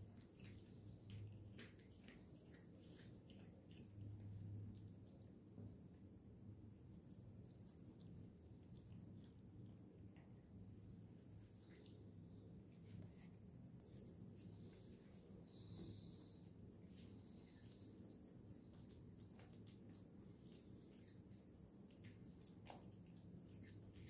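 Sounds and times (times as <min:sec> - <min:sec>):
high-pitched insect trill: 0:00.0 - 0:24.0.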